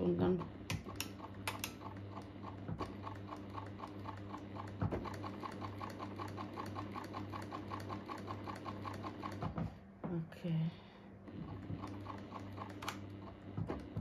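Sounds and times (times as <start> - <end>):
sewing machine motor hum: 0.0 - 9.9, 11.2 - 14.0
sewing machine needle ticking: 0.2 - 9.4, 11.4 - 14.0.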